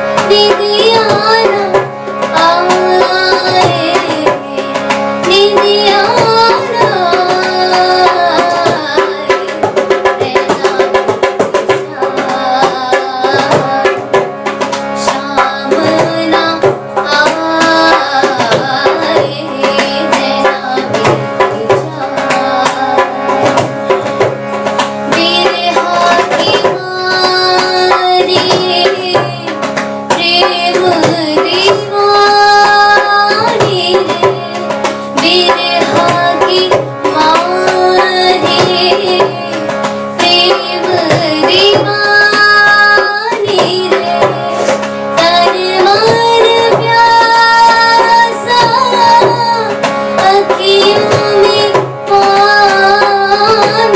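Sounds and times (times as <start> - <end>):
tabla strokes: 0.0 - 53.9
girl singing: 0.2 - 14.2, 15.0 - 23.9, 25.1 - 53.9.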